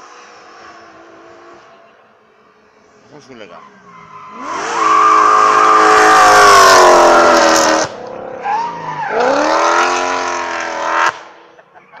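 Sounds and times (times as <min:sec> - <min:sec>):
race car engine at full throttle: 0:00.0 - 0:11.8.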